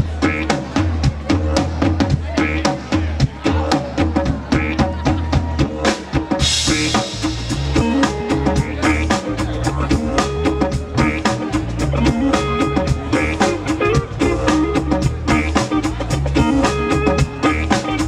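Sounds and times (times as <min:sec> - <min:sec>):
drum kit beat: 0:00.0 - 0:18.0
electric guitars: 0:00.0 - 0:18.0
didgeridoo droning: 0:03.4 - 0:18.0.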